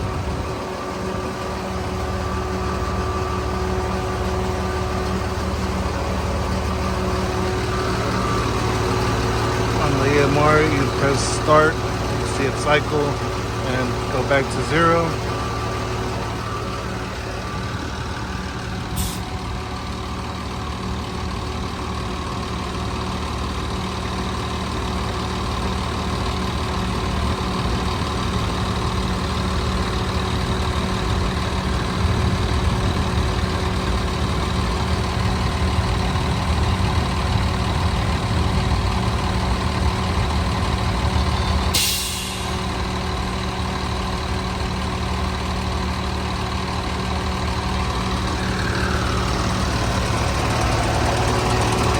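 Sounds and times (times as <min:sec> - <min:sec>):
fuel pump running: 0:00.0 - 0:51.9
truck engine running: 0:00.0 - 0:51.9.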